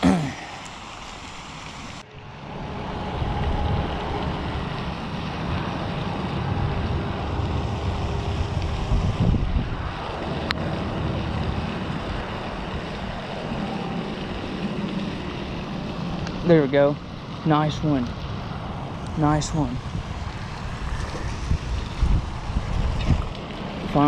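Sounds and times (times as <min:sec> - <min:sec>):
wind buffeting microphone: 0:02.6 - 0:24.0.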